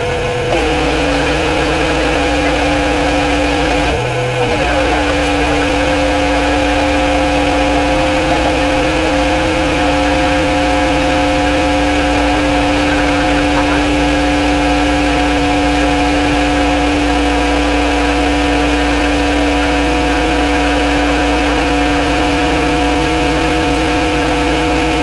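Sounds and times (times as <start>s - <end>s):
small engine humming: 0.0s - 25.0s.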